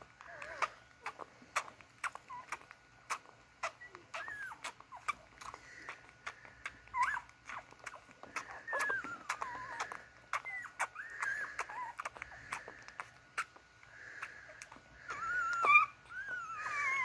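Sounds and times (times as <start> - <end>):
wet suckling clicks: 0.0 - 15.9
puppies squeaking and whimpering: 0.0 - 17.0.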